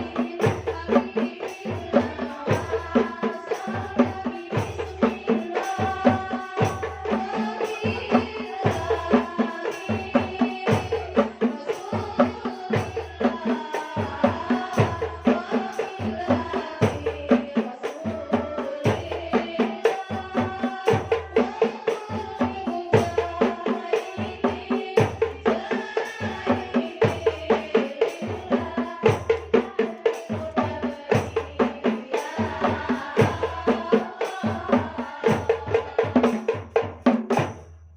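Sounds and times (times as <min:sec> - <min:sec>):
devotional song singing: 0:00.0 - 0:37.6
hand-struck frame drums: 0:00.0 - 0:37.7.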